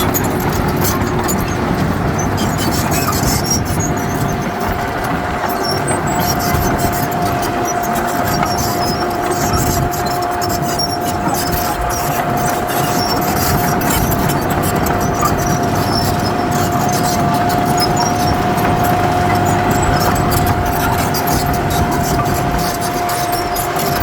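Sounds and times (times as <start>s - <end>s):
diesel machinery engine running: 0.0s - 24.0s.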